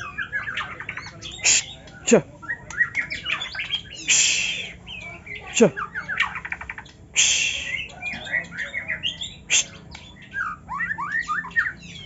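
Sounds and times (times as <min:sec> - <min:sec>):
songbird warbling song: 0:00.0 - 0:12.0.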